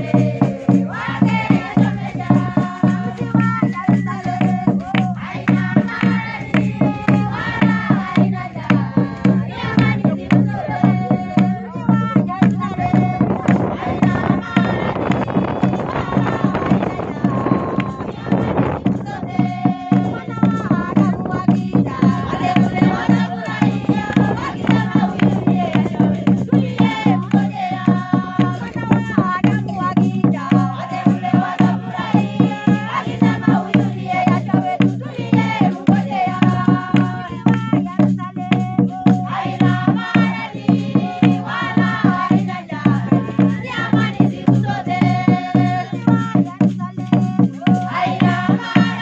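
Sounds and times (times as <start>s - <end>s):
rhythmic hand-clapping: 0.0s - 49.0s
women singing together: 0.0s - 49.0s.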